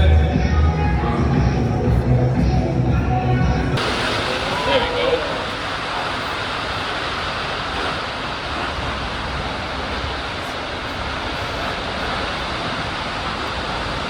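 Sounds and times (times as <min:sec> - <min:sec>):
water and air rushing: 0:00.0 - 0:14.0.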